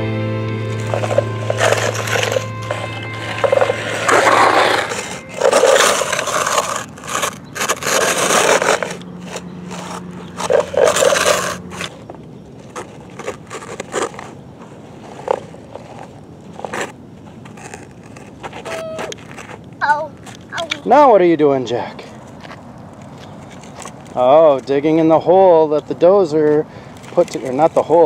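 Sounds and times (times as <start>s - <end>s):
toy bulldozer scraping sand: 0.6s - 22.5s, 23.2s - 28.0s
light scrapes and clicks: 0.7s - 20.9s, 22.0s - 24.8s, 26.4s - 28.0s.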